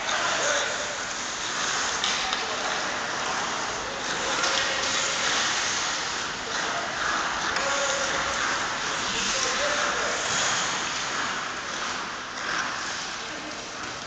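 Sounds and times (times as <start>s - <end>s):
skates scraping across ice: 0.0s - 14.0s.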